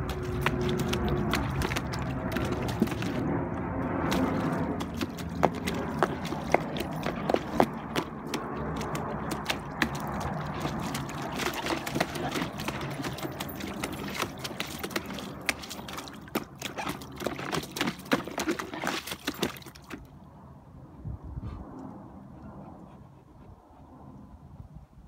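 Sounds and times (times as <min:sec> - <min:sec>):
puppy splashing water: 0:00.0 - 0:20.2.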